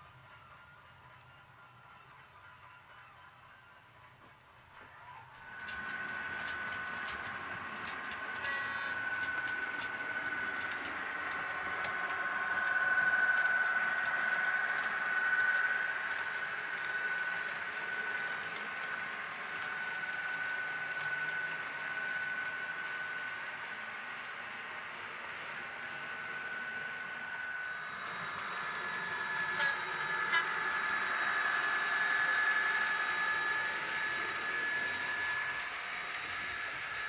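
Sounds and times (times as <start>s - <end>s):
model train motor whine: 0.1s - 37.0s
wheels rushing on track: 4.0s - 37.0s.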